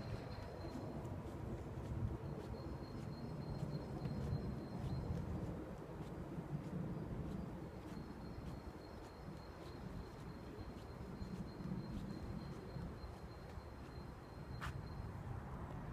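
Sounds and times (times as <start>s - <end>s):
footsteps walking: 0.0s - 14.0s
wind rumble on microphone: 0.0s - 15.9s.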